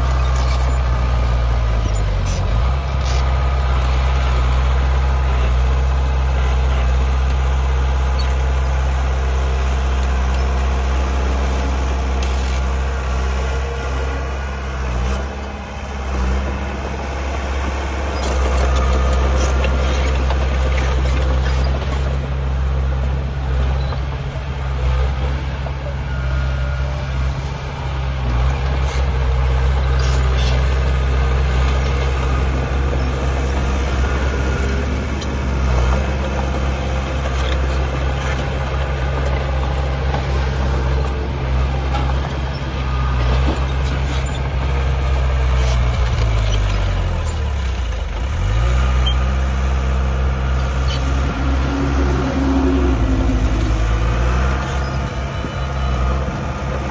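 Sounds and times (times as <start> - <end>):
diesel machinery engine drone: 0.0 - 56.9.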